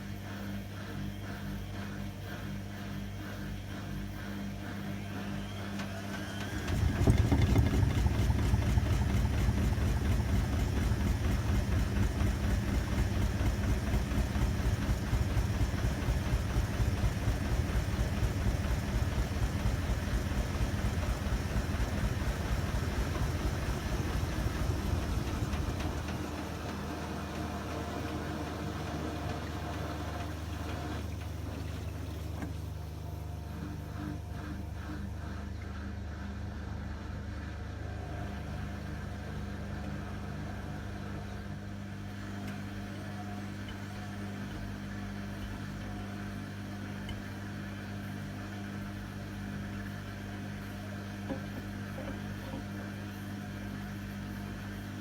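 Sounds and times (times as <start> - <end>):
washing machine spinning: 0.1 - 55.0.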